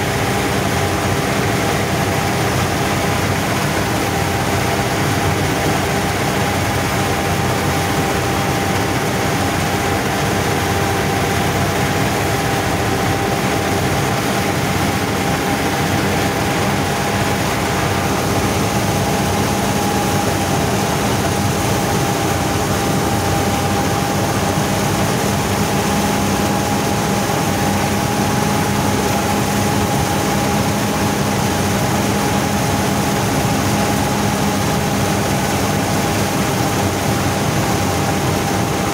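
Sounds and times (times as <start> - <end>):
combine harvester cutting wheat: 0.0 - 38.9
tractor diesel engine droning: 0.0 - 38.9.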